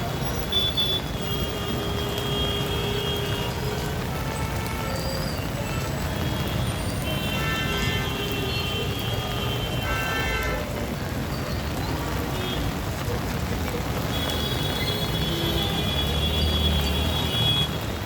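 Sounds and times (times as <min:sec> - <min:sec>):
traffic rumble of engines and tyres: 0:00.0 - 0:18.0.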